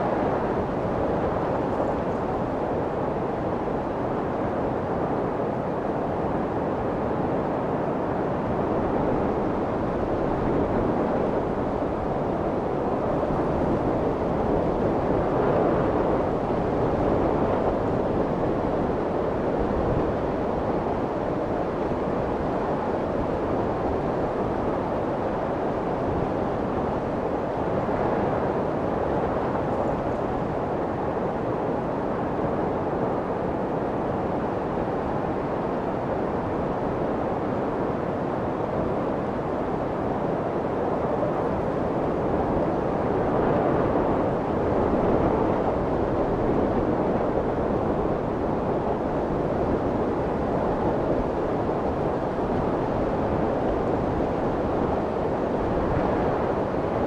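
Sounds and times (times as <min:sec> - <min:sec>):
rushing white noise: 0:00.0 - 0:57.0.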